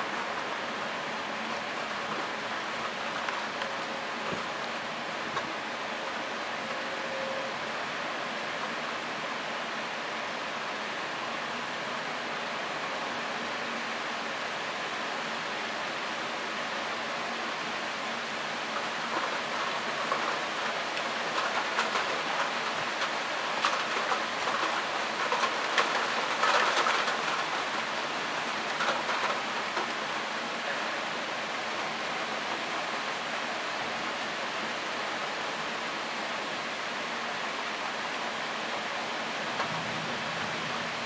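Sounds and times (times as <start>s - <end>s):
heavy rain hissing: 0.0s - 41.0s
sharp patters of raindrops: 0.0s - 41.0s.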